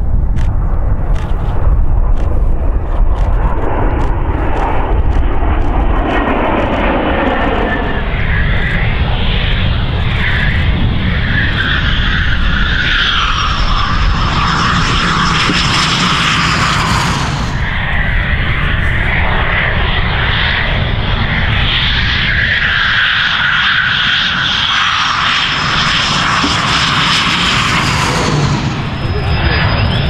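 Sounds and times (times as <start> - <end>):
high jet whine: 0.0 - 30.0
jet engines roaring: 0.0 - 30.0.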